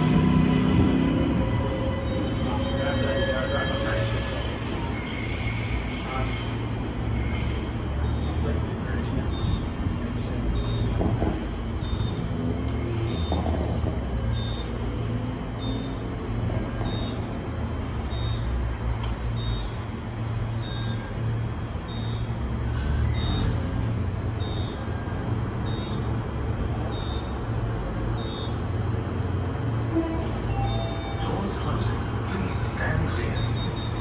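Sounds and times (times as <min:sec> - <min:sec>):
heavy vehicle engine rumble: 0:00.0 - 0:34.0.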